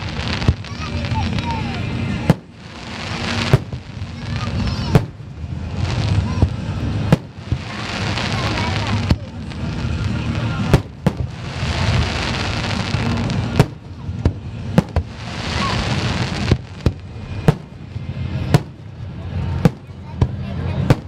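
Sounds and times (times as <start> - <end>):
fireworks bangs: 0.0 - 21.0
fireworks hissing and crackling: 0.0 - 21.0.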